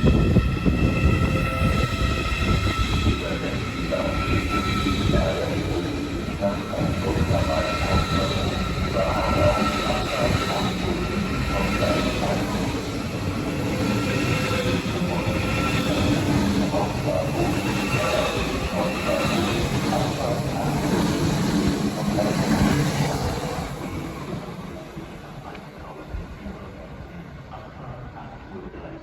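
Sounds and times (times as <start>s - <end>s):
high-pitched whining tones: 0.0s - 25.0s
train wheels rumbling on rails: 0.0s - 29.0s.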